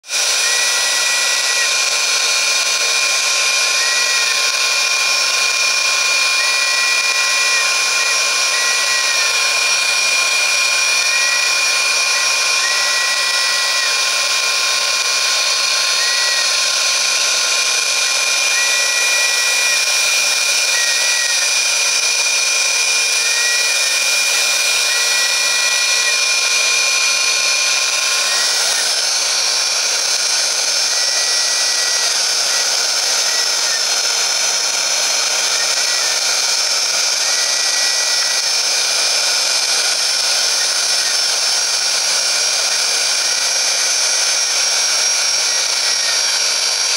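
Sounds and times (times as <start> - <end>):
router spindle motor whine: 0.0 - 46.9
stepper motors whistling: 0.0 - 46.9.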